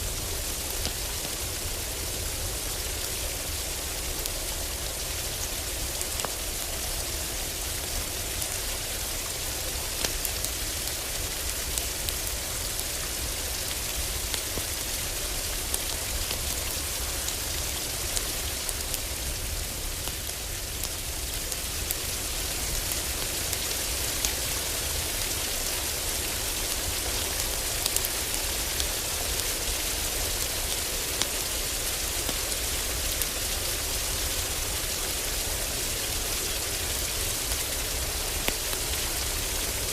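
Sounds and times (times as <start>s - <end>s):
heavy rain drumming on a roof: 0.0s - 39.9s
wood fire crackling: 0.0s - 39.9s.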